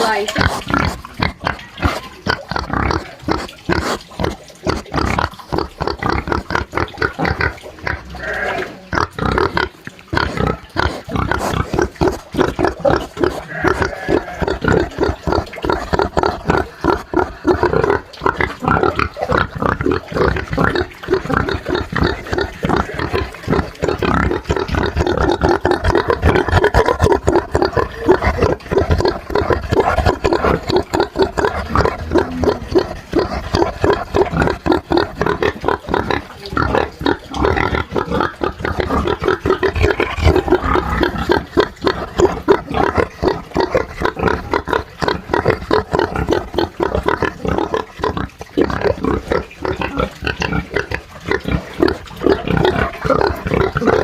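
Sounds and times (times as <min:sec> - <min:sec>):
pigs grunting: 0:00.0 - 0:54.0.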